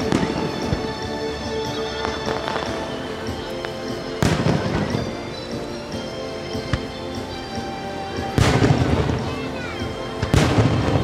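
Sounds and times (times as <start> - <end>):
fireworks bangs: 0.0 - 11.0
fireworks crackling: 0.0 - 11.0
music: 0.0 - 11.0.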